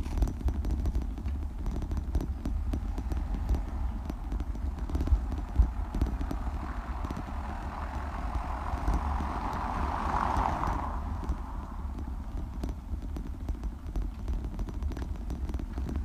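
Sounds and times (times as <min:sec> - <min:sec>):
bicycle rattling over bricks: 0:00.0 - 0:16.0
wind rumble on microphone: 0:00.0 - 0:16.0.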